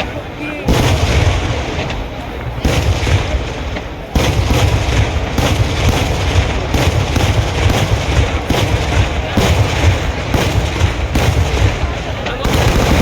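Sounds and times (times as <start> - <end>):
fireworks bangs: 0.0 - 13.0
rumble of fireworks booms: 0.0 - 13.0.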